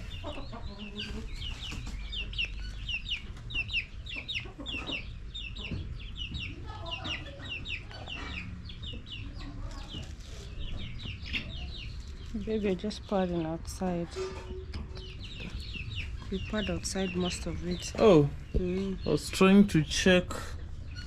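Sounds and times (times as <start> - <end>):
chickens cheeping: 0.0 - 21.0.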